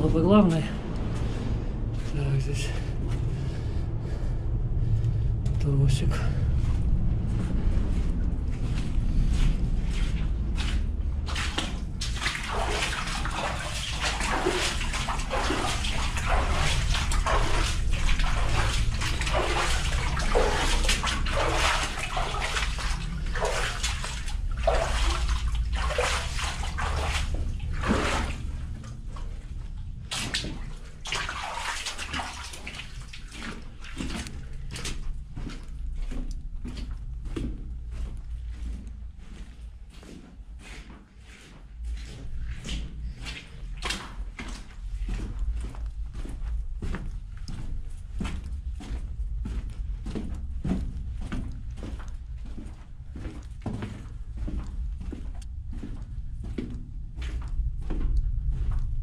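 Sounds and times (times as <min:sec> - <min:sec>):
footsteps wading through water: 0:00.0 - 0:59.0
steady low rumble: 0:00.0 - 0:59.0.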